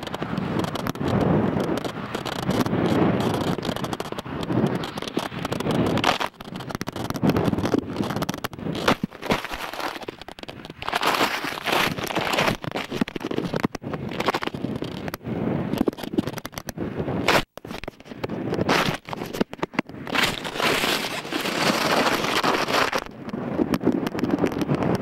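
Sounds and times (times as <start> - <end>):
grass scraping camera housing: 0.0 - 24.9.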